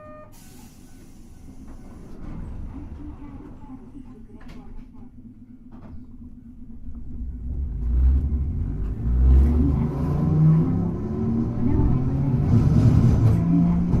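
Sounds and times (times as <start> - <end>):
tram motor whine: 0.0 - 14.0
tram wheels rumbling: 0.0 - 14.0.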